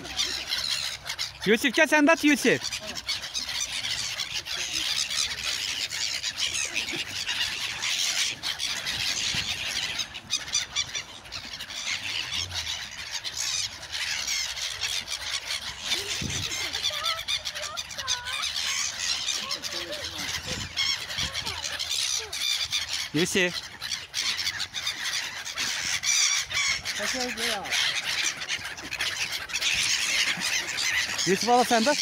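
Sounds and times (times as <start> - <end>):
flock of gulls calling: 0.0 - 32.0.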